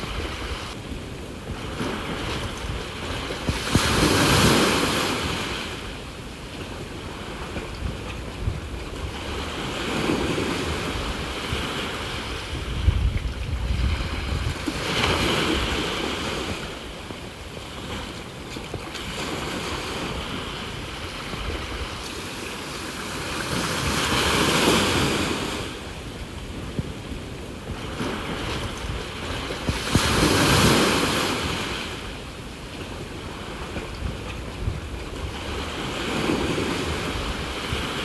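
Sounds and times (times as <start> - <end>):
sea waves breaking on shore: 0.0 - 38.0
wind rumbling on microphone: 0.0 - 38.0.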